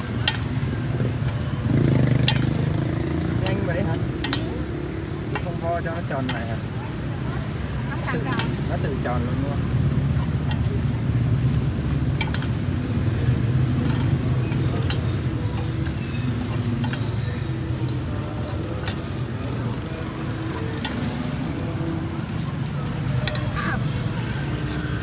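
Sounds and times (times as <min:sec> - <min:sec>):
hot oil sizzling: 0:00.0 - 0:25.0
street traffic rumble: 0:00.0 - 0:25.0.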